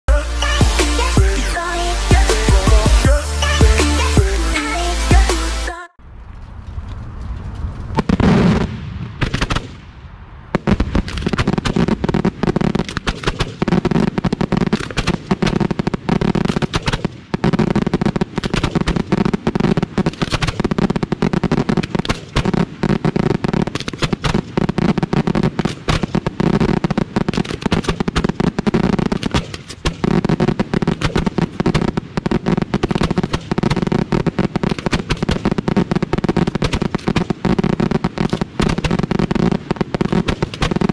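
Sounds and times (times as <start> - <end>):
rapid fireworks barrage: 0.1 - 5.6, 7.8 - 40.9
firework launches: 6.3 - 40.9.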